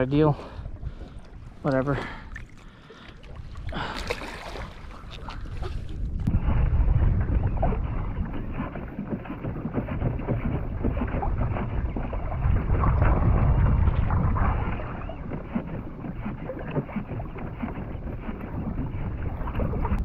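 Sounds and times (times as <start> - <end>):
water sloshing against a hull: 0.0 - 20.0
wind buffeting microphone: 0.0 - 20.0.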